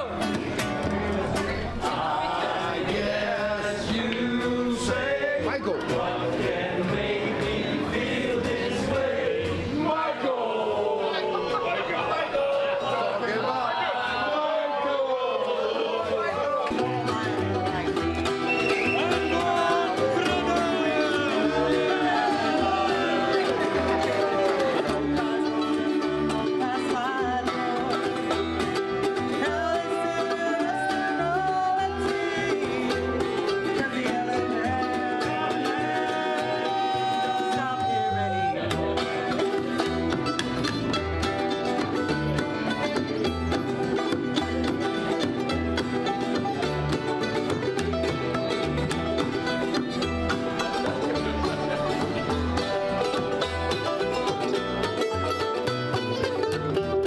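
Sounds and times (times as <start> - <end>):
bluegrass string band playing: 0.0 - 57.0.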